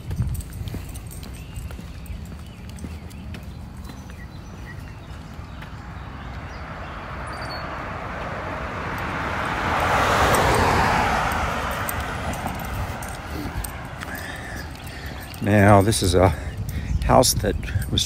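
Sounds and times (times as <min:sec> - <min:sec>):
vehicle passing on road: 0:00.0 - 0:18.0.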